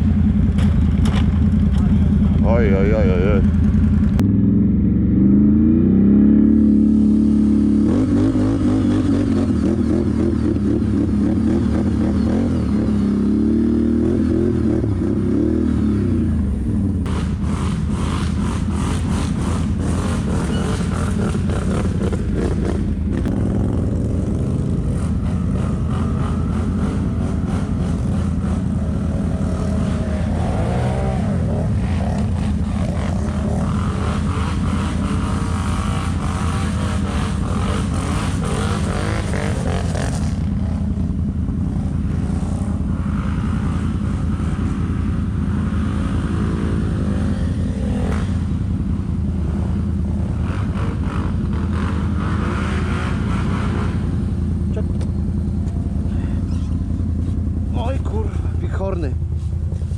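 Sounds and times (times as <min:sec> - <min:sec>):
atv engine revving under load: 0:00.0 - 0:58.5.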